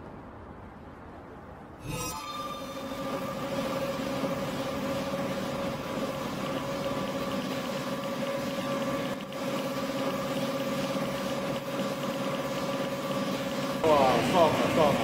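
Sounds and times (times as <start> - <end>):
electric press humming: 1.8 - 15.0.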